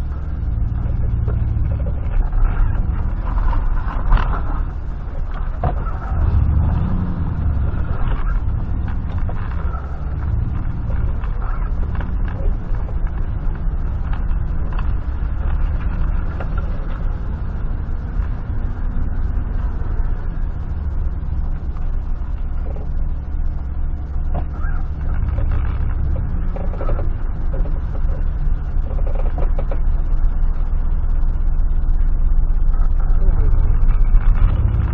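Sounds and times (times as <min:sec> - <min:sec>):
truck engine rumbling: 0:00.0 - 0:34.9.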